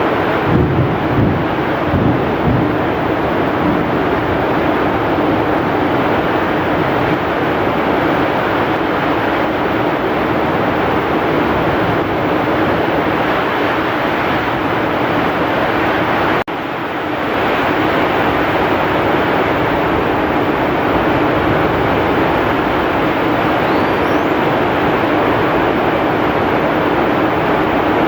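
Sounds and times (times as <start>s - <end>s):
heavy rain falling: 0.0s - 28.0s
strong wind: 0.0s - 28.0s.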